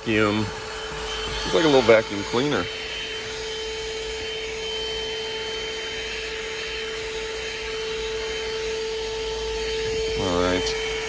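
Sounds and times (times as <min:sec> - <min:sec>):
handheld vacuum running: 0:00.0 - 0:11.0.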